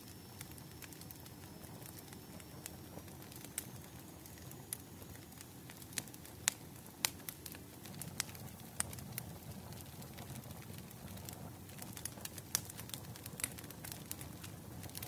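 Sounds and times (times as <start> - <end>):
low rumble and hiss: 0.0 - 15.0
wood fire crackling: 0.0 - 15.0.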